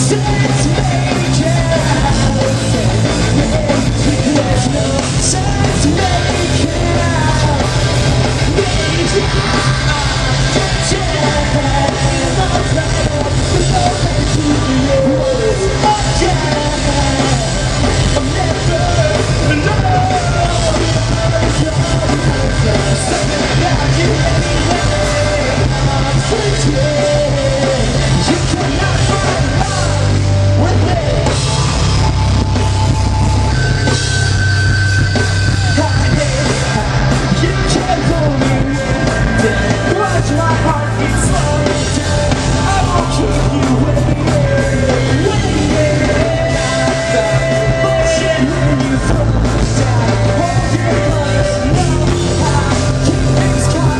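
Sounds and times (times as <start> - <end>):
drum kit: 0.0 - 53.9
heavy bass: 0.0 - 53.9
live rock band playing: 0.0 - 53.9
person singing: 0.0 - 53.9.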